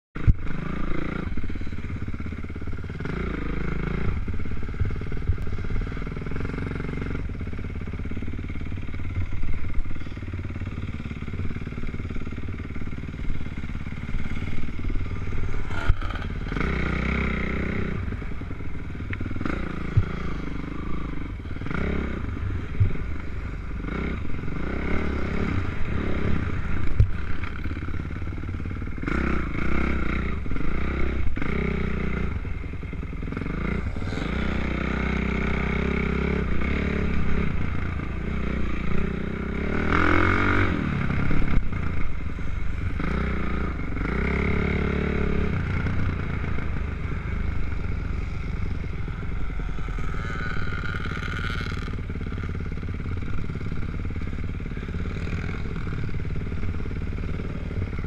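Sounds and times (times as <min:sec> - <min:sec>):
dirt bike engine revving: 0:00.2 - 0:32.5, 0:33.2 - 0:58.0.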